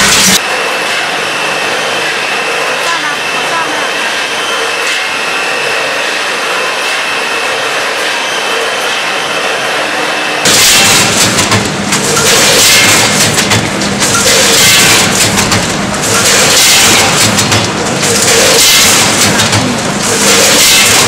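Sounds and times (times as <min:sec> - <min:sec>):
packing machine running: 0:00.0 - 0:21.0.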